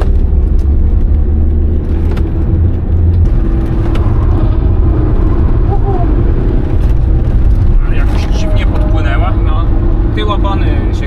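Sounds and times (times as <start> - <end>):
diesel engine and road noise in car: 0.0 - 11.0.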